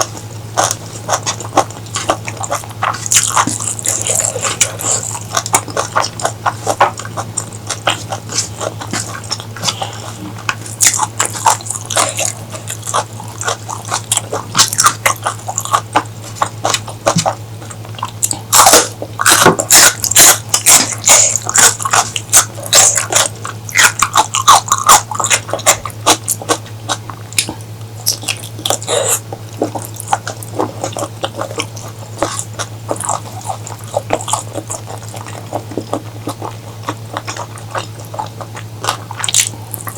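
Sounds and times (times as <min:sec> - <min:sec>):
mouth smacks: 0:00.0 - 0:39.9
steady low hum: 0:00.0 - 0:39.9
wet chewing: 0:00.0 - 0:39.9.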